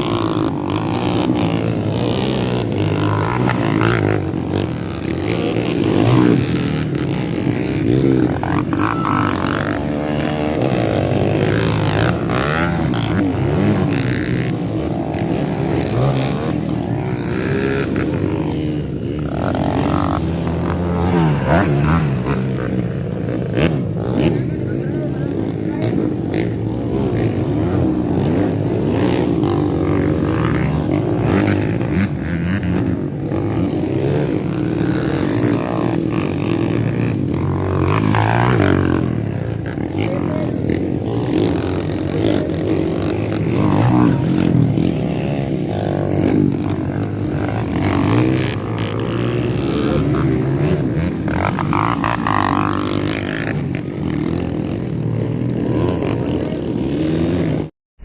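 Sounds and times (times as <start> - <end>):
dirt bike engines revving: 0.0 - 57.7.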